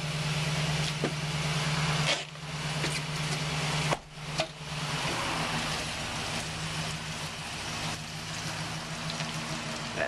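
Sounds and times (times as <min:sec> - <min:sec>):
van engine idling: 0:00.0 - 0:10.0.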